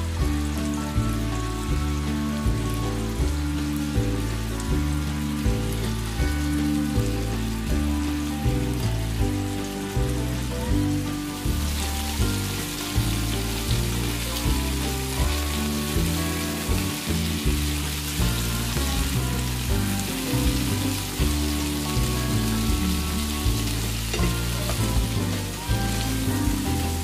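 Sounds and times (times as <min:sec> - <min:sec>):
background music with steady beat: 0:00.0 - 0:27.0
meat sizzling and spitting in oil: 0:00.0 - 0:27.0.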